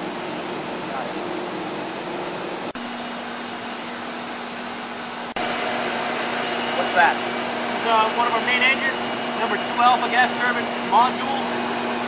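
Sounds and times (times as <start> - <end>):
ship engine room machinery roar: 0.0 - 12.0.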